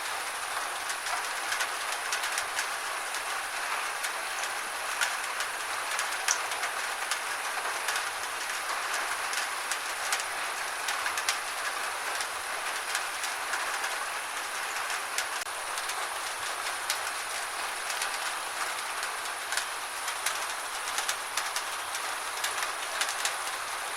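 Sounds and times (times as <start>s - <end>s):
gentle rain hissing: 0.0s - 23.9s
raindrops ticking: 0.1s - 23.9s.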